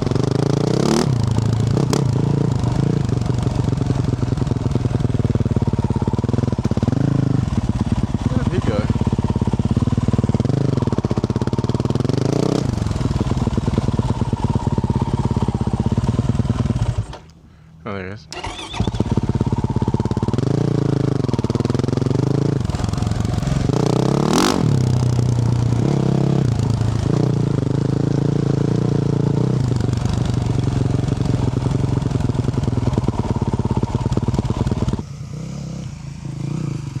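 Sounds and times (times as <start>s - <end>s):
motorcycle engine revving: 0.0s - 17.2s, 18.3s - 37.0s.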